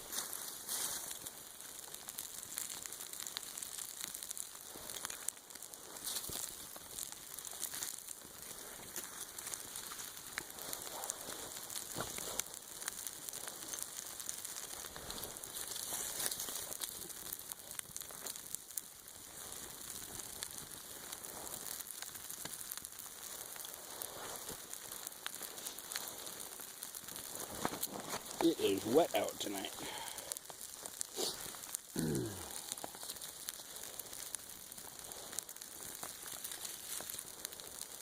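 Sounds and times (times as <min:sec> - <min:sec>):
freezing rain hissing: 0:00.0 - 0:38.0.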